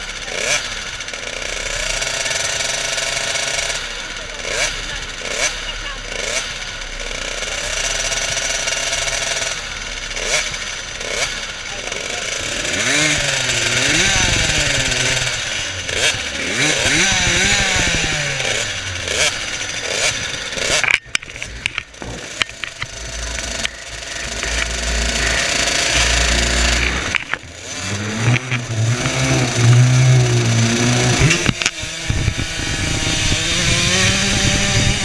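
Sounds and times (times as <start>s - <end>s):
two-stroke motocross bikes revving: 0.0s - 35.0s.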